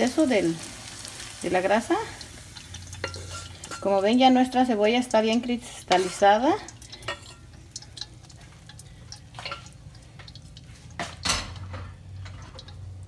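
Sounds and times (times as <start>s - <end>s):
wooden spoon stirring potatoes: 0.0s - 11.2s.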